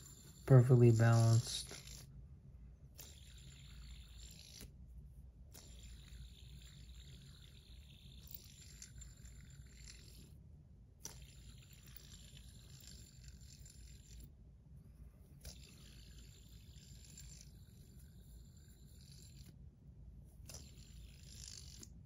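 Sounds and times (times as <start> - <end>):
fidget spinner whirring: 0.0 - 2.2, 2.8 - 14.5, 15.2 - 22.0.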